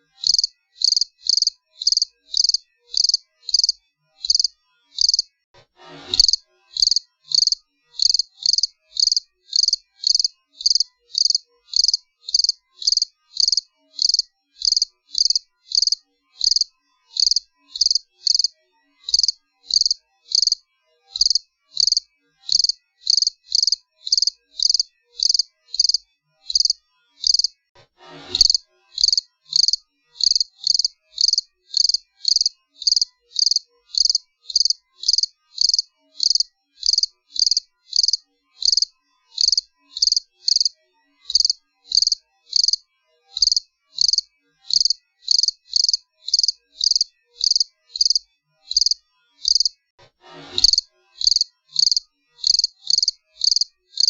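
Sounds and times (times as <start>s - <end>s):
cricket chirping: 0.2s - 5.3s, 6.2s - 18.5s, 19.1s - 20.6s, 21.2s - 27.5s, 28.4s - 40.7s, 41.3s - 42.8s, 43.4s - 49.7s, 50.6s - 54.0s.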